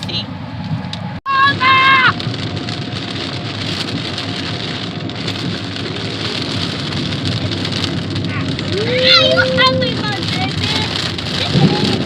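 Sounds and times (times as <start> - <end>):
rain beating on a car: 1.3 - 12.0.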